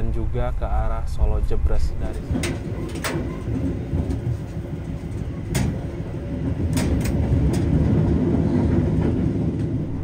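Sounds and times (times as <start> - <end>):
train coach rumbling on rails: 0.0 - 10.0.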